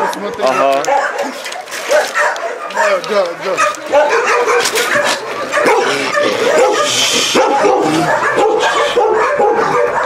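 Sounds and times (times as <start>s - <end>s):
many dogs barking: 0.0s - 10.0s.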